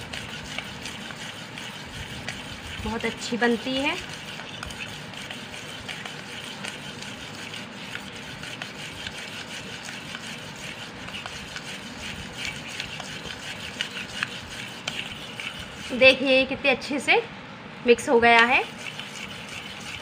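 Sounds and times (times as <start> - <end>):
spoon stirring thick mixture: 0.0 - 16.2, 18.4 - 20.0.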